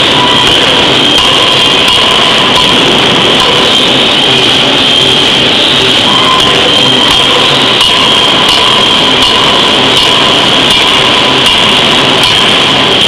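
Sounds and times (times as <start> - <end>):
power forging hammer running: 0.0 - 13.0.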